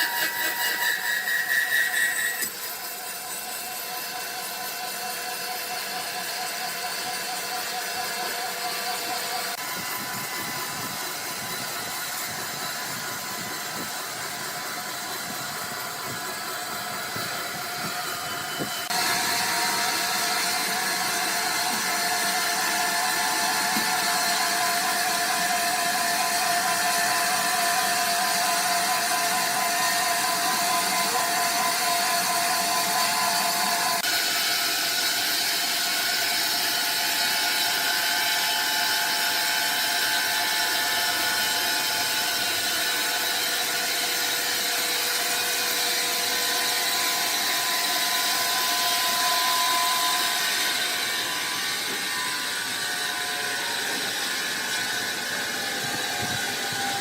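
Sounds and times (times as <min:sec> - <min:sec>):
sawmill machinery whining: 0:00.0 - 0:57.0.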